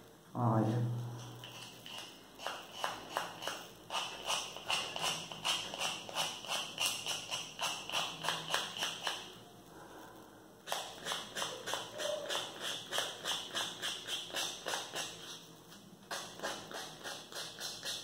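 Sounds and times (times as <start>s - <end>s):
nail file rasping back and forth: 1.4s - 9.3s, 10.6s - 15.4s, 16.1s - 18.0s.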